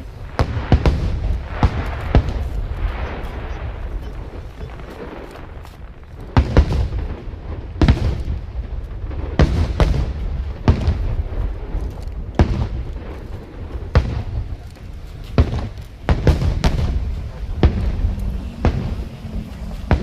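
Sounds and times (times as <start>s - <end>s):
firework shells booming: 0.0s - 20.0s
steady low rumble: 0.0s - 20.0s.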